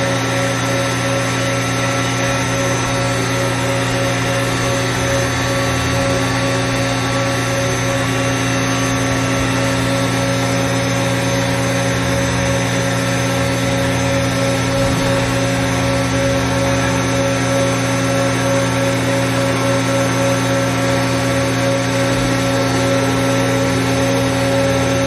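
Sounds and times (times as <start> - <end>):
machine spindle humming and whining: 0.0 - 25.0.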